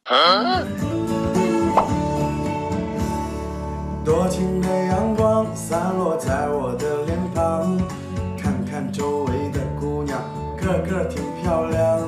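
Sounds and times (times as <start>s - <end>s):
song with guitar and singing: 0.4s - 12.0s.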